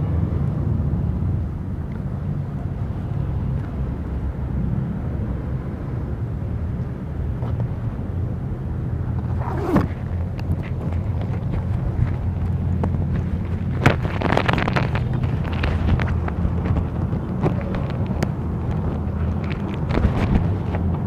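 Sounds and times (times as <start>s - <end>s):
scooter engine rumble: 0.0s - 21.0s
wind on microphone: 0.0s - 21.0s.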